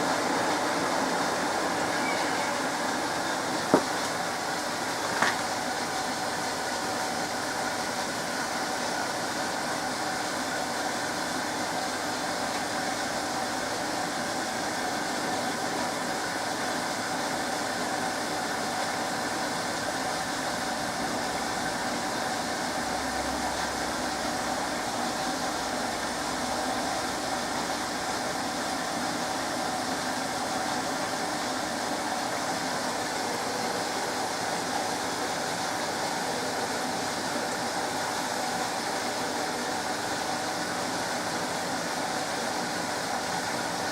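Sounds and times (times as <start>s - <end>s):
washing machine whirring: 0.0s - 43.9s.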